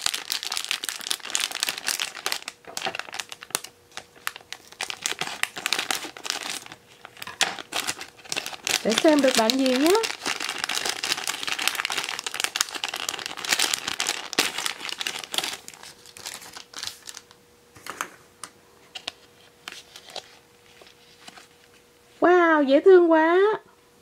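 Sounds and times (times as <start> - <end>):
foil packet crinkling and tearing: 0.0 - 17.4, 18.9 - 21.5.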